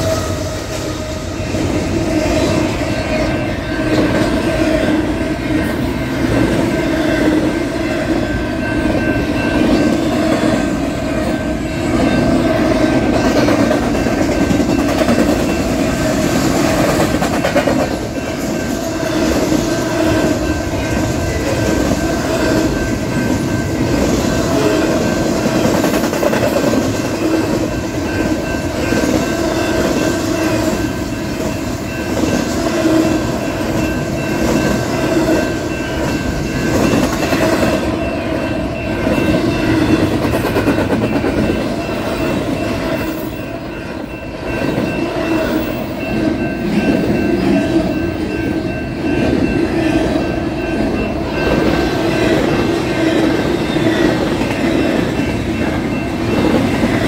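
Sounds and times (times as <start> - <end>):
crossing bell ringing: 0.0 - 57.0
freight train rumbling past: 0.0 - 57.0.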